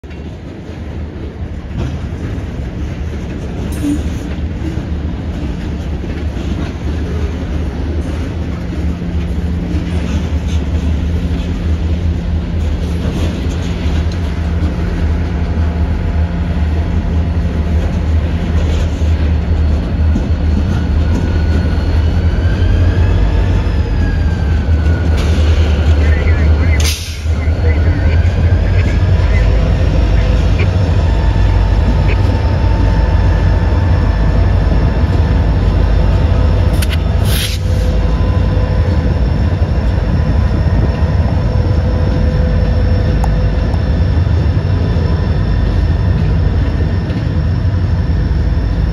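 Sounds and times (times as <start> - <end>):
diesel locomotive hum: 0.0 - 48.9
freight cars rolling: 0.1 - 43.2.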